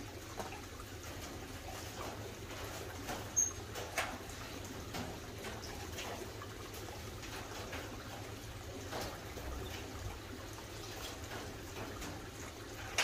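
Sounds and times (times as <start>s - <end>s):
running water trickling: 0.0s - 13.0s.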